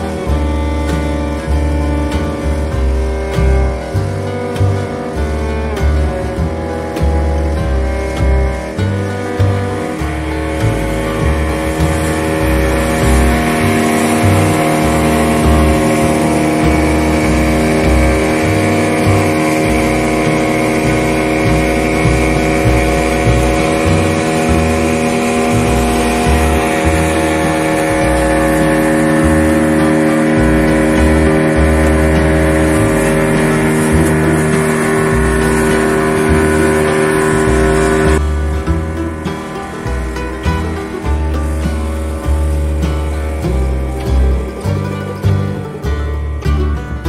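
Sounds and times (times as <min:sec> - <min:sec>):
background music with bass line: 0:00.0 - 0:47.0
boat engine running: 0:00.0 - 0:47.0
water rushing past hull: 0:00.0 - 0:47.0.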